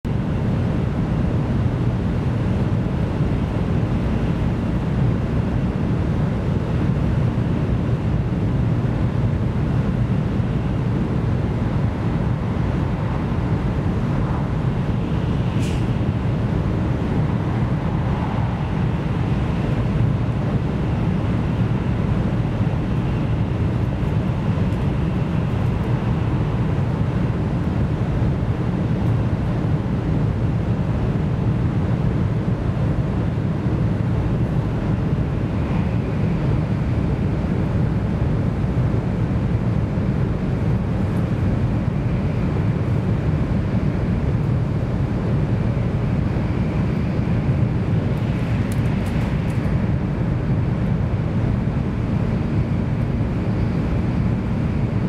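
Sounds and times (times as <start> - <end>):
air rushing past train: 0.1 - 55.0
train wheels rumbling on rail: 0.1 - 55.0.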